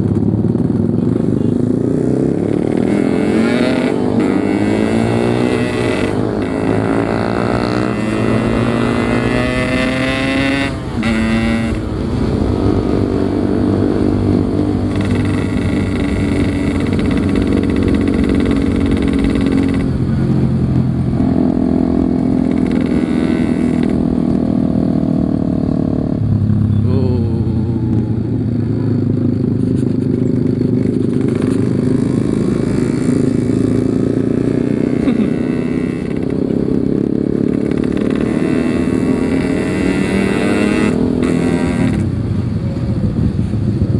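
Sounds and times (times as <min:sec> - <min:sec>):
two-stroke motorcycle engine: 0:00.0 - 0:43.9.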